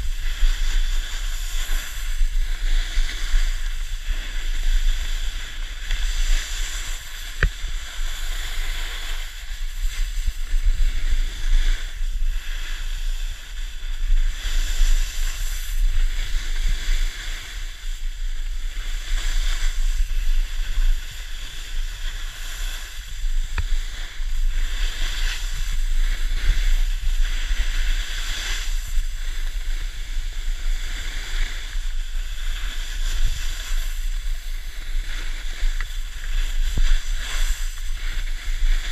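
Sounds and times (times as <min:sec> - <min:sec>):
skis carving on snow: 0:00.0 - 0:38.9
wind buffeting microphone: 0:00.0 - 0:38.9.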